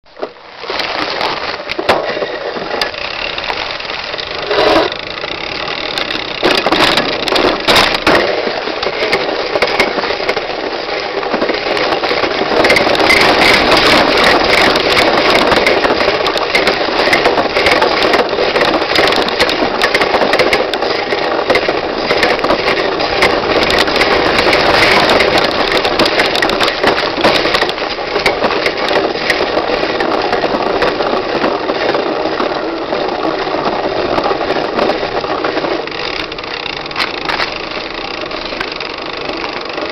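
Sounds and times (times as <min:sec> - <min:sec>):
bike rattling over bumps: 0:00.1 - 0:39.9.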